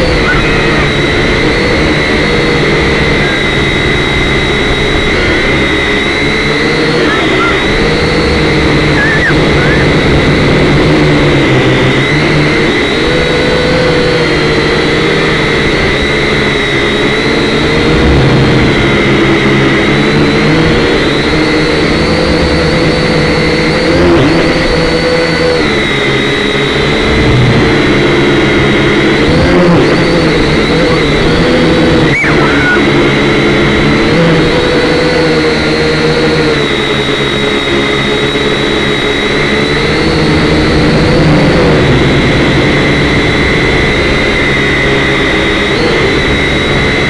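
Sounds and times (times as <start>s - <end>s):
drone motors whining: 0.0s - 47.0s.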